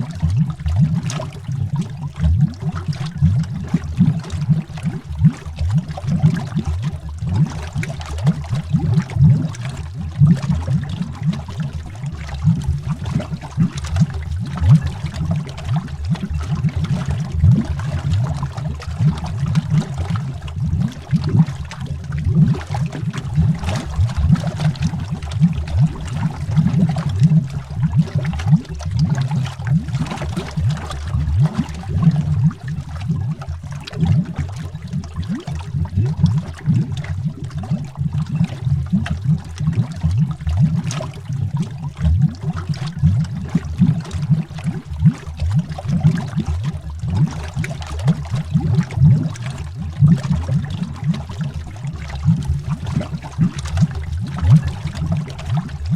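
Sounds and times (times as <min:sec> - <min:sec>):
underwater air bubbles: 0:00.0 - 0:55.9.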